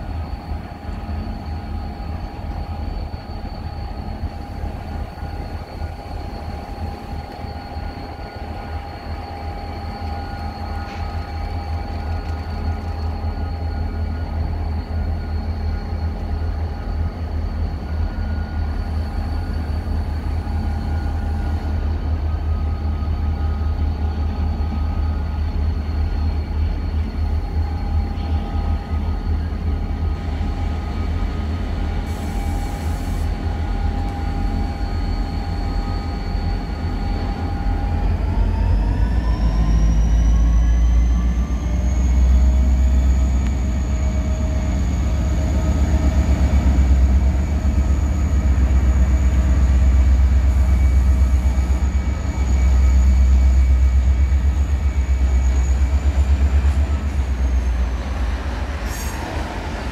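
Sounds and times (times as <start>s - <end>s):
locomotive engine rumble: 0.0s - 59.9s
locomotive whine: 0.0s - 59.9s.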